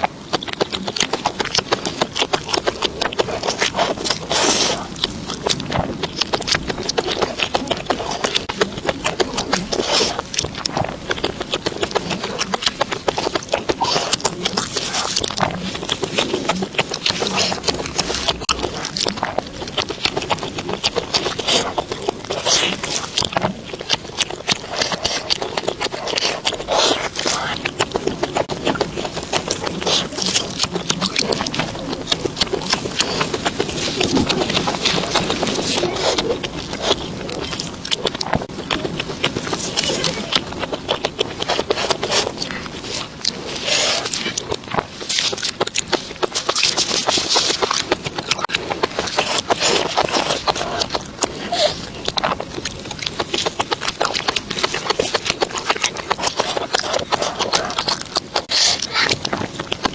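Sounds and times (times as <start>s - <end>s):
chewing crisp food: 0.0s - 59.9s.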